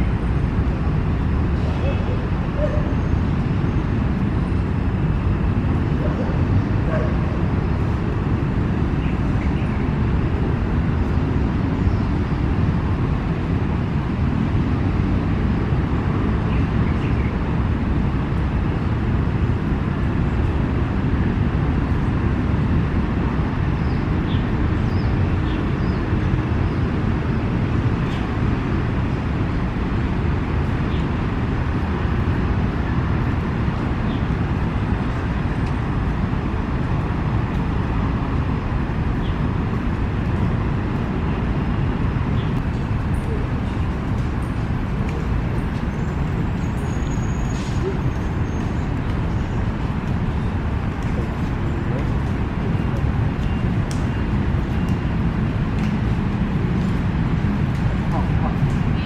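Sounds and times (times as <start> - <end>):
city road traffic rumble: 0.0 - 59.0.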